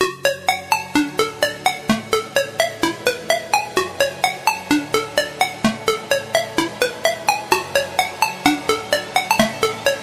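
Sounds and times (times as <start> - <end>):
plucked synth notes: 0.0 - 10.0.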